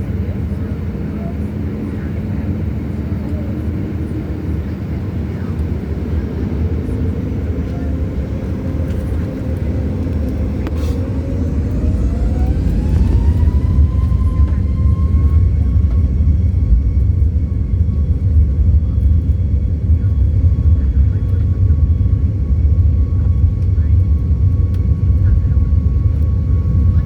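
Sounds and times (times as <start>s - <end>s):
deep engine rumble: 0.0s - 27.0s
jet engine whine: 0.0s - 27.0s.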